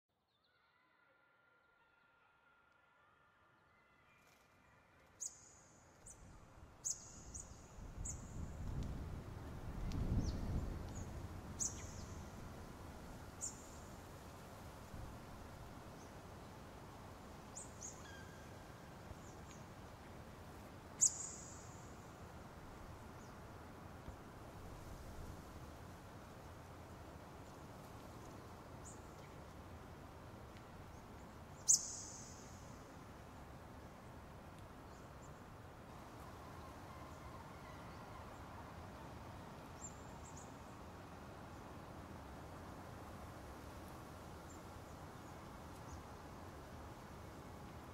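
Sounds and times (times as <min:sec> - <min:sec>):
faint low noise wash: 0:00.2 - 0:47.9.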